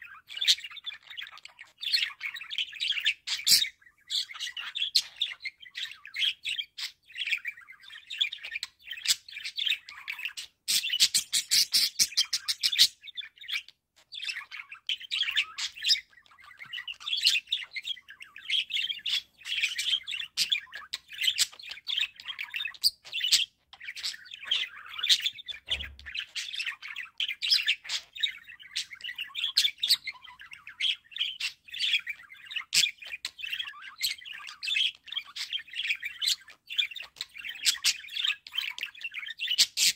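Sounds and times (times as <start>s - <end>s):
budgerigars warbling and chirping: 0.0s - 39.9s.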